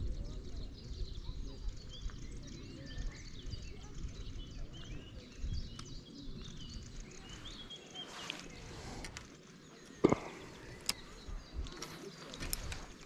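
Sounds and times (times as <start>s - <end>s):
small birds chirping and singing: 0.0s - 13.0s.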